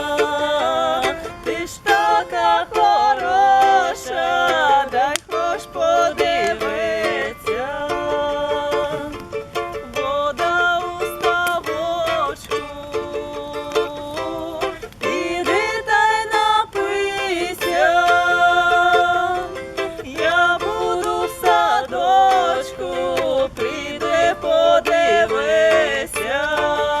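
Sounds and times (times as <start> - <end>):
people singing: 0.0 - 27.0
strummed string instrument: 0.0 - 27.0.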